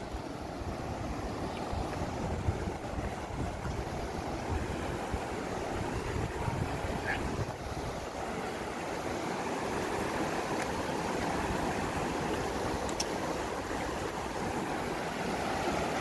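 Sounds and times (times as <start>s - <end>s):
river rapids rushing over rocks: 0.1s - 16.0s.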